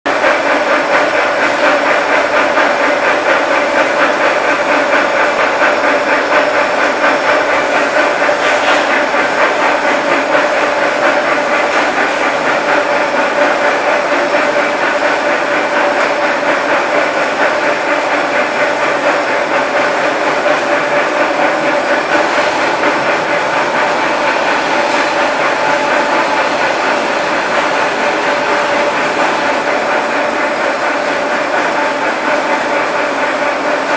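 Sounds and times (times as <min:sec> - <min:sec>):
loud machine noise with flutter: 0:00.1 - 0:33.9.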